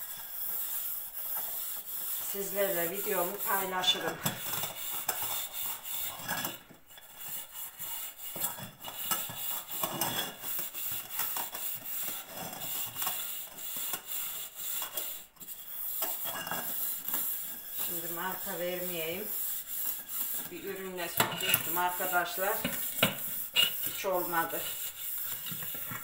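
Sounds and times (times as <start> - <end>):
wire scourer scrubbing metal pot: 0.0 - 26.0.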